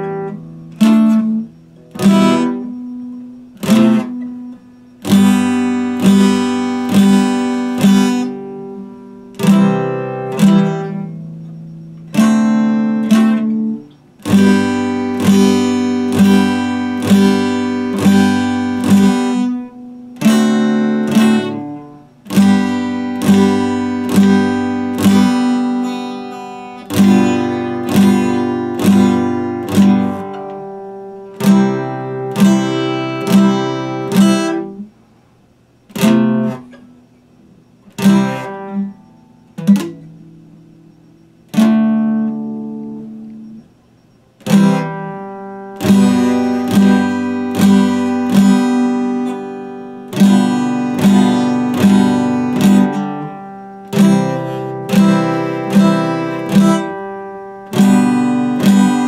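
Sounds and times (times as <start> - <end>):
acoustic guitar strummed chords: 0.0 - 59.0.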